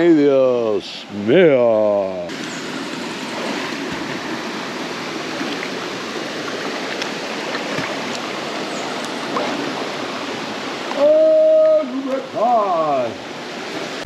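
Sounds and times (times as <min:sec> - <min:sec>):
river stream rushing: 0:00.0 - 0:14.0
swimmer splashing: 0:02.3 - 0:14.0.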